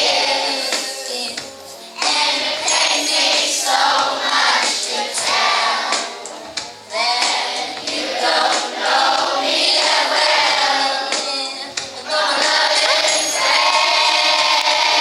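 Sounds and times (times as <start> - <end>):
backing music: 0.0 - 15.0
children singing: 0.0 - 15.0.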